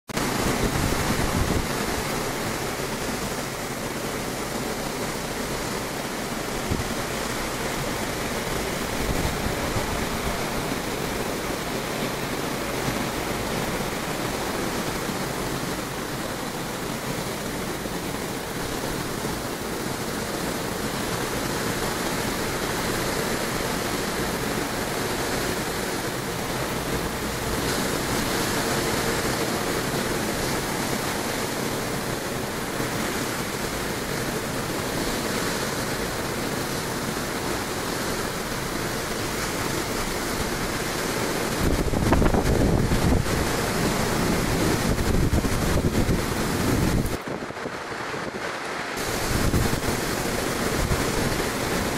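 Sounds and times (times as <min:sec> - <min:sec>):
ocean surf breaking: 0:00.1 - 0:51.9.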